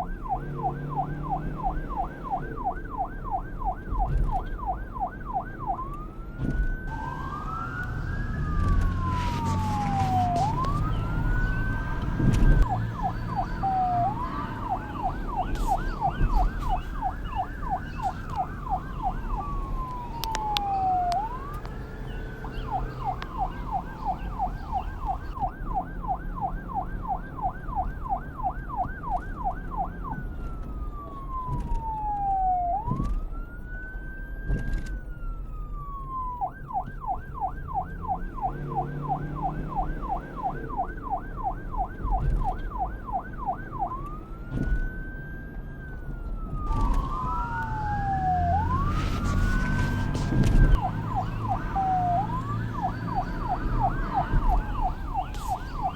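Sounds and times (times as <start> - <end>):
police siren wailing and yelping: 0.0 - 55.9.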